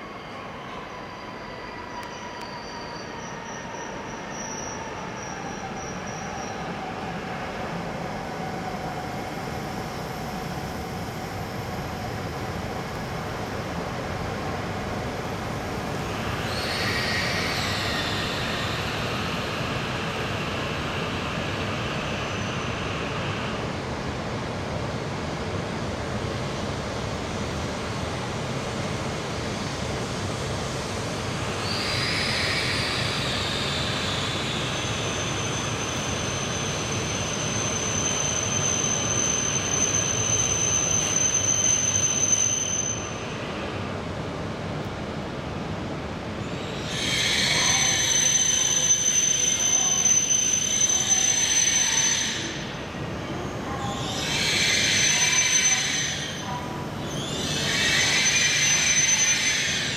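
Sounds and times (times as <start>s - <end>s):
train wheel squeal: 0.0s - 44.2s, 46.4s - 59.9s
train rolling with falling whine: 0.0s - 59.9s.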